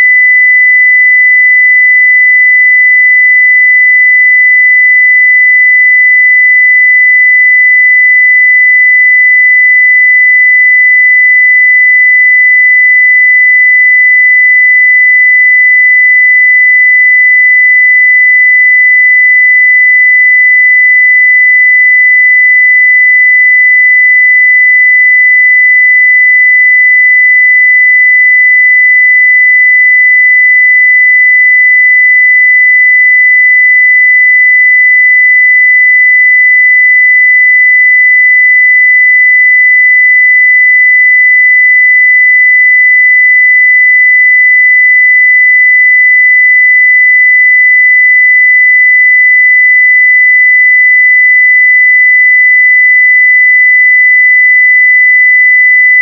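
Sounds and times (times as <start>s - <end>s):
high-pitched sine test tone: 0.0s - 56.0s.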